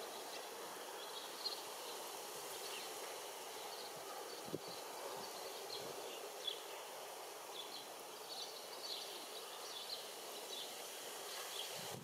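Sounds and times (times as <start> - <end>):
small birds chirping: 0.0 - 12.0
steady outdoor hiss: 0.0 - 12.0.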